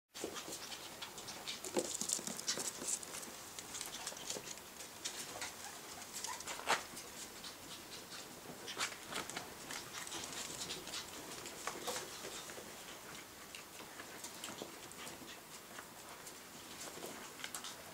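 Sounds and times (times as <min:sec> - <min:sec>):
puppies scuffling and scratching: 0:00.2 - 0:17.9.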